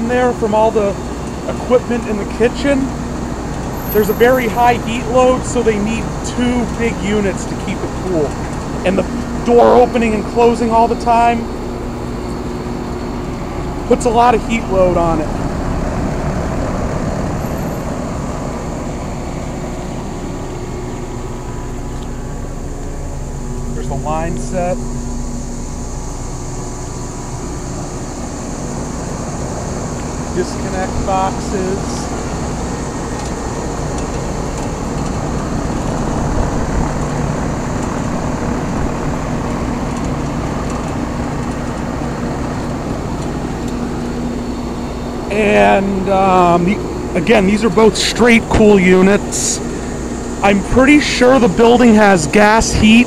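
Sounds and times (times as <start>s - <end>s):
compressor hum: 0.0s - 53.0s
condenser fan air rushing: 0.0s - 53.0s.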